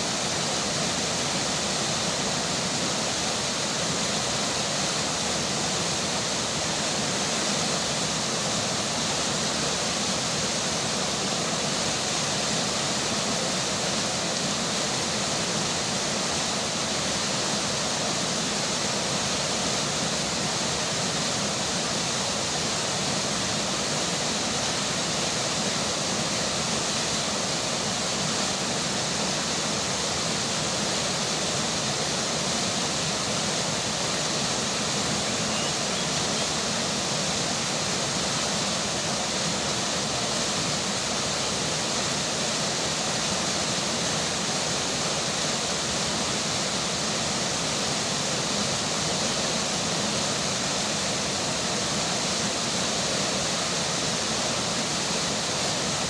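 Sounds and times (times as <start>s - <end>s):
rainfall: 0.0s - 56.0s
river rushing: 0.0s - 56.0s.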